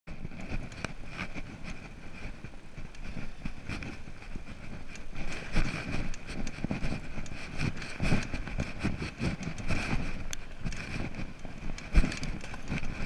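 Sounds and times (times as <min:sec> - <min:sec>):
bike knocking and rattling: 0:00.1 - 0:13.0
tyre and wind rumble: 0:00.1 - 0:13.0.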